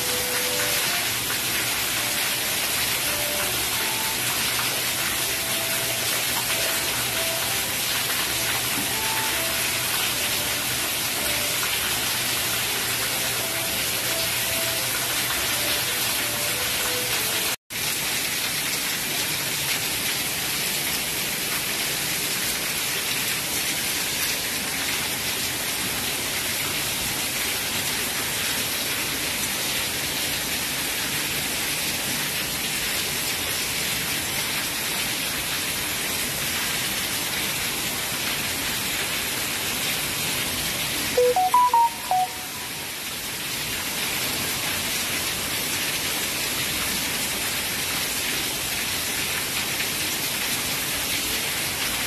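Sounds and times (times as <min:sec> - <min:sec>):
heavy rain: 0:00.0 - 0:52.0
water pouring off roof: 0:00.0 - 0:52.0.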